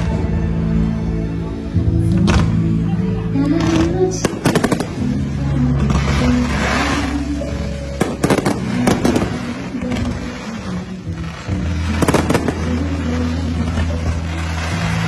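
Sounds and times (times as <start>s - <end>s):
music with long low notes: 0.0s - 15.0s
fireworks bursting with sharp bangs: 2.0s - 15.0s.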